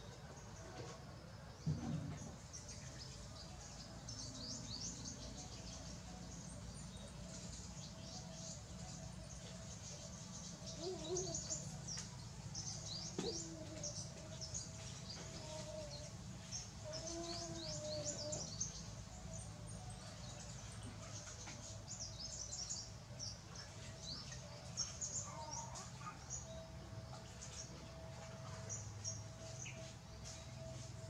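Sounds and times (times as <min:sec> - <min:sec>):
small birds chirping: 0:01.6 - 0:31.0.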